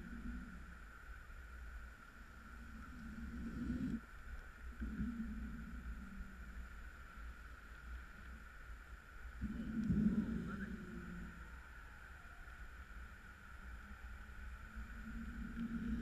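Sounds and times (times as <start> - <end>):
droning hum: 0.0 - 16.0.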